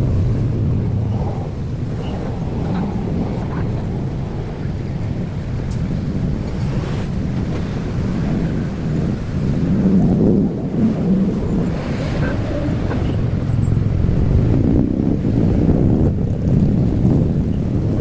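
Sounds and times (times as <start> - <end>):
rumble of road vehicles: 0.0 - 18.0.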